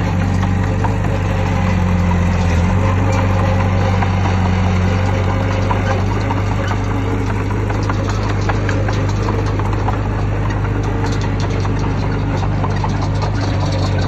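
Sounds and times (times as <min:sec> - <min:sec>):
diesel engine running: 0:00.0 - 0:14.0
short clicks and rattles: 0:00.0 - 0:14.0.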